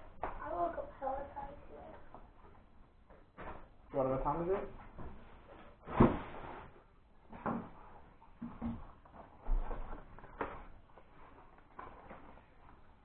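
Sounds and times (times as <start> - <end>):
cardboard and packaging rustling: 0.2 - 13.0.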